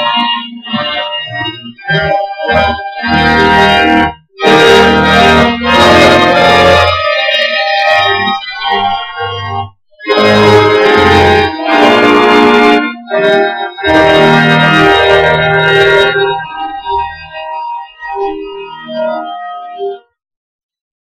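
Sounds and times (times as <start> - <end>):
church organ chords: 0.0 - 20.0.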